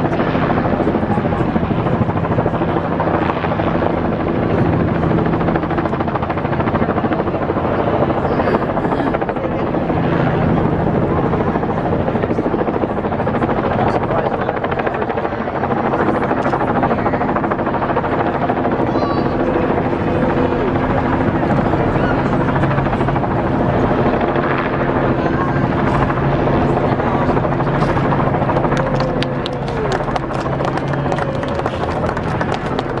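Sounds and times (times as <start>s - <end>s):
fluttering mechanical drone: 0.0s - 33.0s.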